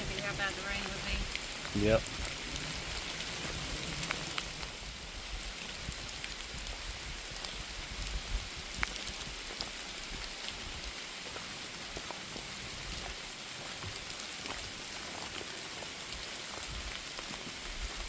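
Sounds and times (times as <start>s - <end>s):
rain on forest canopy: 0.0s - 18.0s.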